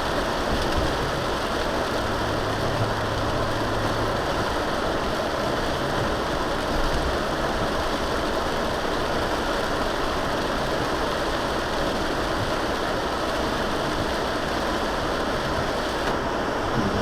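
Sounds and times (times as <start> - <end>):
heavy rain: 0.0 - 17.0
vehicle driving on wet road: 0.0 - 17.0.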